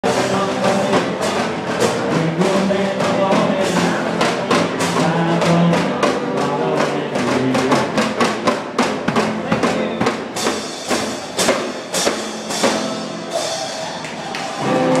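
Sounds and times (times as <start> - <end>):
drums and percussion: 0.0 - 15.0.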